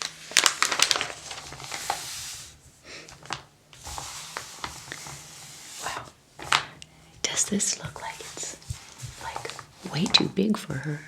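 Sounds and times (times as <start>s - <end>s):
paper pages crackling: 0.0s - 10.6s
paper rustling: 0.0s - 10.8s.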